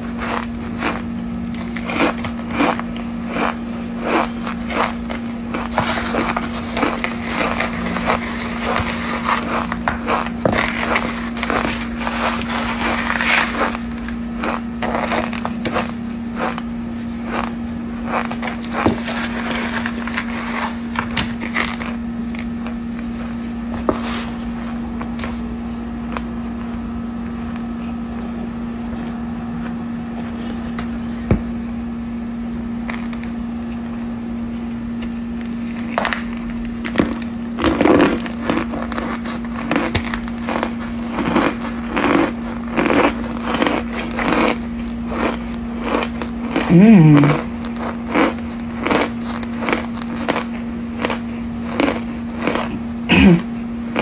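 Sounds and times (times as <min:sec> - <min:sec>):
powder crunching while chewed: 0:00.0 - 0:25.4, 0:32.8 - 0:33.9, 0:35.0 - 0:54.0.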